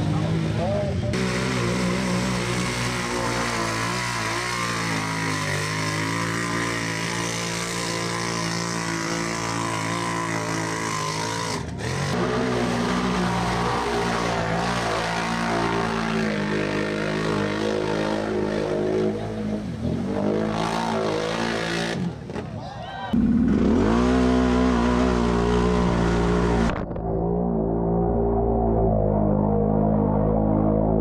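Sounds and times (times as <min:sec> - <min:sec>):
quad bike engine revving: 0:00.0 - 0:31.0.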